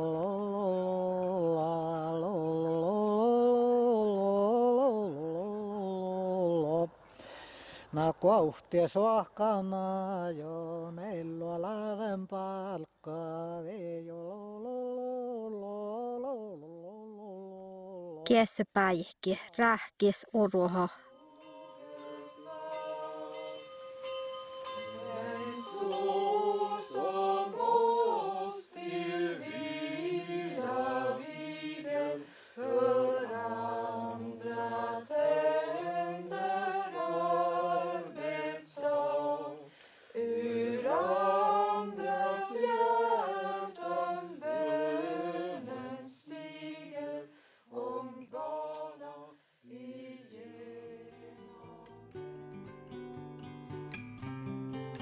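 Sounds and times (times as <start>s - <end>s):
person singing unaccompanied: 0.0s - 7.1s, 7.9s - 18.5s, 20.6s - 52.1s.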